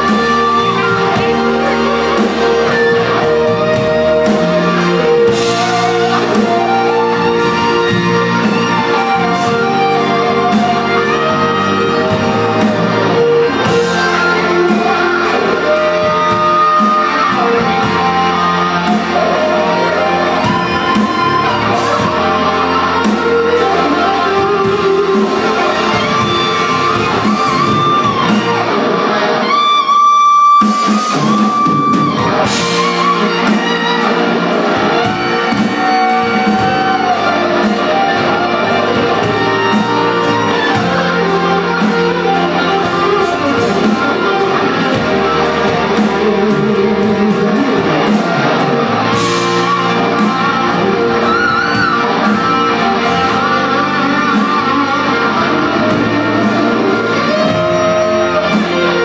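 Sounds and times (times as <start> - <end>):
lead electric guitar: 0.0 - 59.0
live rock band playing: 0.0 - 59.0.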